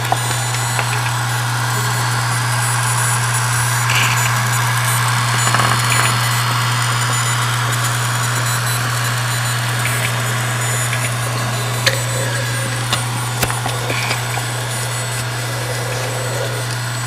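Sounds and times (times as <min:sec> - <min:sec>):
constant low hum: 0:00.0 - 0:17.0
laptop electronic whine and hiss: 0:00.0 - 0:17.0.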